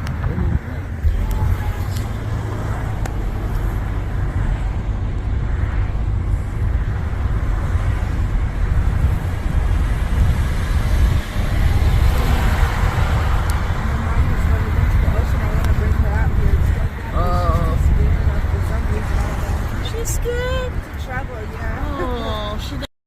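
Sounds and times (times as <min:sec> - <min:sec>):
fluttering low rumble: 0:00.0 - 0:19.8.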